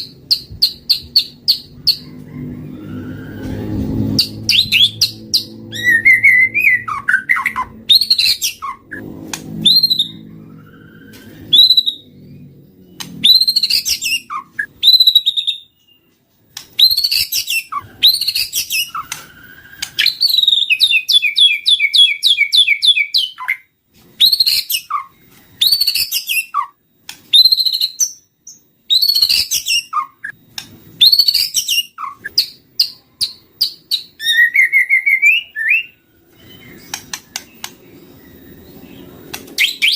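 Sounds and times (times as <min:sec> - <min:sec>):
songbird singing whistles and trills: 0:04.2 - 0:09.0, 0:09.6 - 0:39.9.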